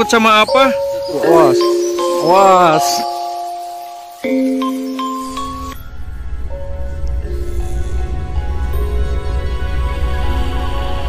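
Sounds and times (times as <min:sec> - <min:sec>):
slow melody of held notes: 0:00.0 - 0:11.0.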